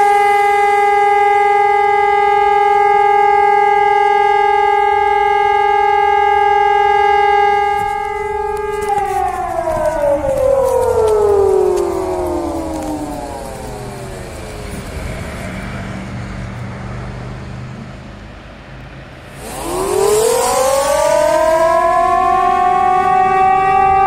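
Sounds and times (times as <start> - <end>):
fire station alarm siren: 0.0 - 16.4, 19.3 - 24.0.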